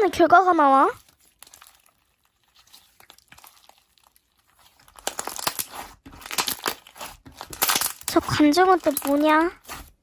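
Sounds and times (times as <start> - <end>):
slime squished by hand: 0.9 - 10.0.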